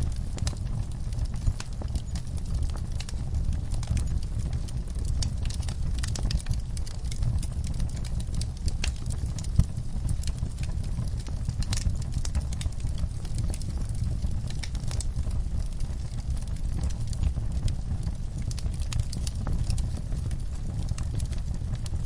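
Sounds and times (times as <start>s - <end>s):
fire crackling and popping: 0.0s - 22.0s
steady low rumble: 0.0s - 22.0s.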